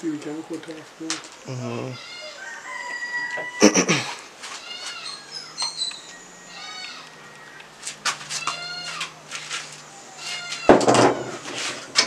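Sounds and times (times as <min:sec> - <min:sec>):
animal cries: 0:01.6 - 0:11.4.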